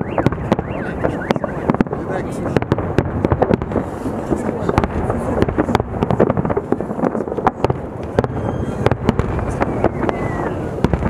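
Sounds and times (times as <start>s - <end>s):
continuous rumble: 0.0s - 11.0s
fireworks bursting: 0.0s - 11.0s
sharp bangs and crackles: 0.0s - 11.0s.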